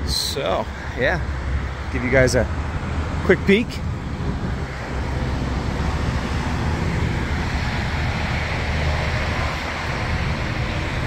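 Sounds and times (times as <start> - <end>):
diesel trucks idling: 0.0 - 11.0
wind buffeting microphone: 0.8 - 11.0.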